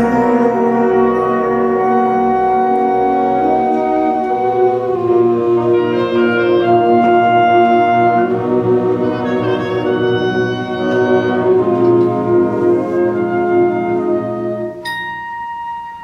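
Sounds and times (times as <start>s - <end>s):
concert band playing: 0.0s - 14.8s.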